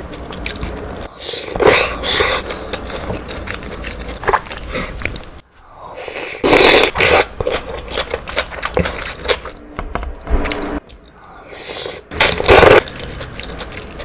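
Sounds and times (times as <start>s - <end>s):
wet chewing: 0.0s - 5.4s, 6.0s - 9.6s, 10.8s - 14.0s.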